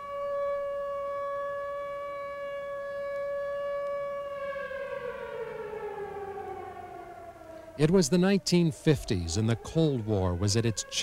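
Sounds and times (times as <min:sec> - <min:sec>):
air-raid siren wailing: 0:00.0 - 0:11.0.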